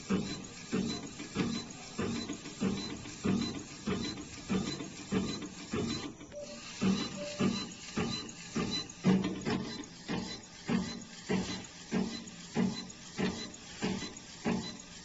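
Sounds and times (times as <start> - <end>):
print head stepping and whirring: 0.0 - 15.0.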